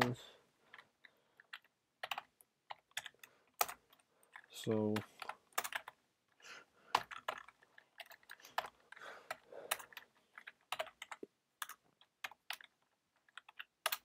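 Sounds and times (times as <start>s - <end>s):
keyboard typing clicks: 0.0s - 6.0s, 6.9s - 14.0s.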